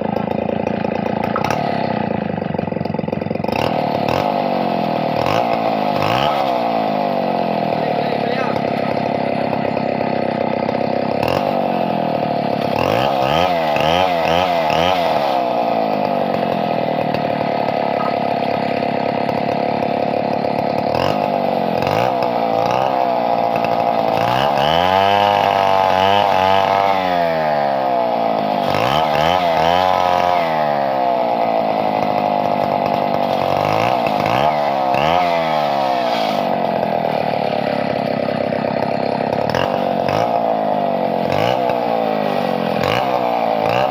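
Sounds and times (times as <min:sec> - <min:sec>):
chainsaw running at high revs: 0:00.0 - 0:43.9.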